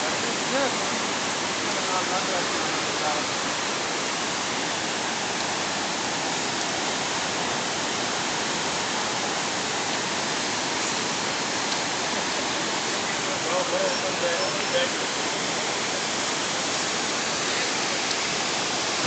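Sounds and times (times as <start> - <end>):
rushing mountain water: 0.0 - 19.0.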